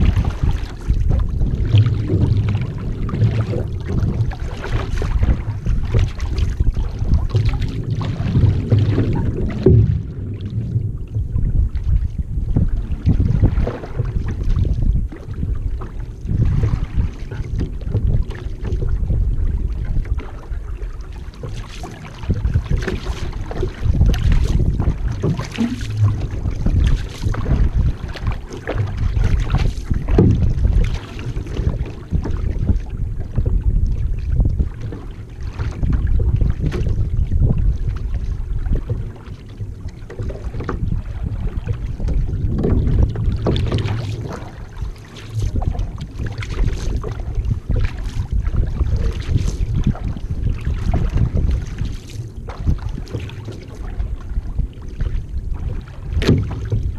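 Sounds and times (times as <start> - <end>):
deep uneven rumble: 0.0 - 56.9
paddle splashes: 0.0 - 56.9
water rushing along hull: 0.0 - 56.9
wind buffeting microphone: 0.0 - 56.9.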